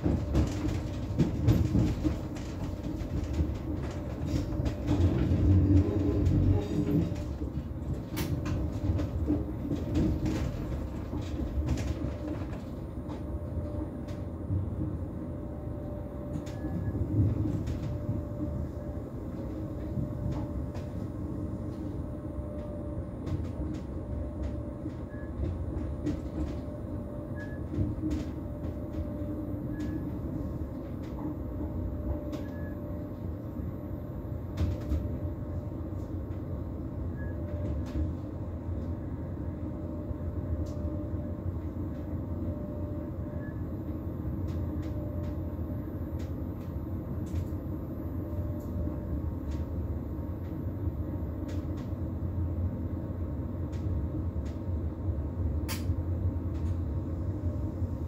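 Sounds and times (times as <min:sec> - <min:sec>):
train cab rumble and hum: 0:00.0 - 0:58.0.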